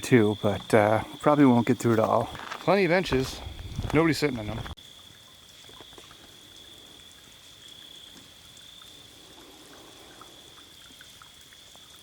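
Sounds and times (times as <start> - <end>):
flowing water: 0.0 - 12.0.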